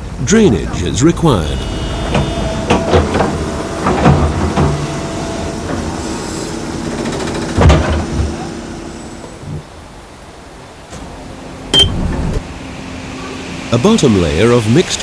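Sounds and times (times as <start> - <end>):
construction machinery humming: 0.0 - 15.0.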